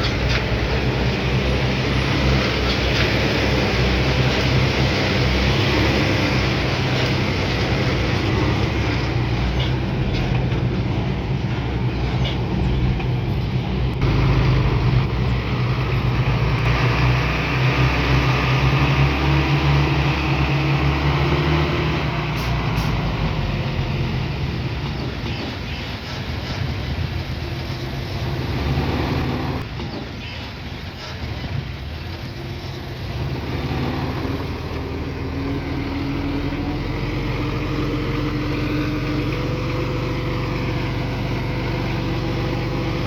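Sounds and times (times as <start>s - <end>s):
bulldozer diesel engine under load: 0.0s - 43.0s.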